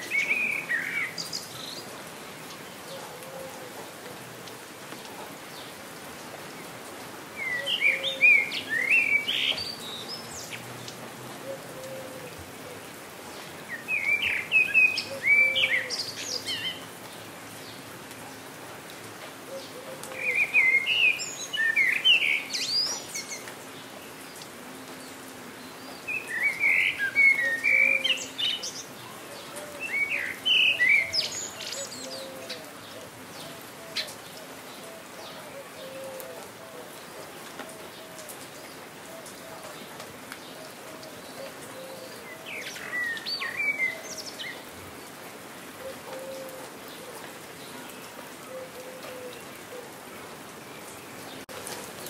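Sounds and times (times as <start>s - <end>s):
light rain patter: 0.0s - 52.0s
songbird chirping: 0.0s - 52.0s.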